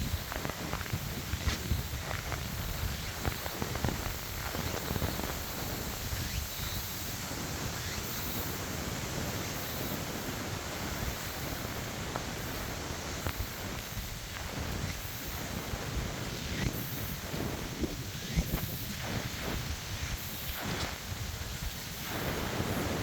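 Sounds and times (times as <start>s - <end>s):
steady rain hiss: 0.0s - 23.0s
wind buffeting microphone: 0.0s - 23.0s.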